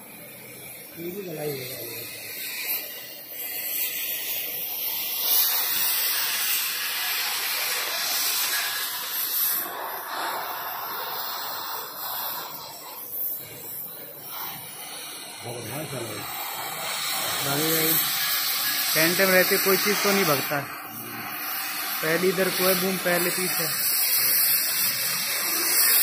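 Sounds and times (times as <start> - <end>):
loud steady hissing: 0.0 - 26.0.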